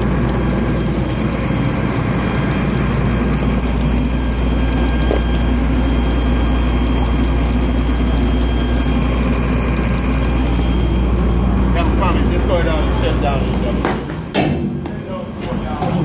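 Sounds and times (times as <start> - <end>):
engine rumbling with high whine: 0.0 - 15.8.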